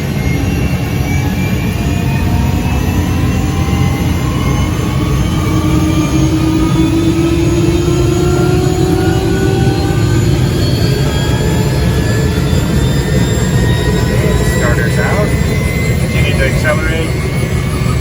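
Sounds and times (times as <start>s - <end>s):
helicopter turbine engine spooling up: 0.0s - 18.0s.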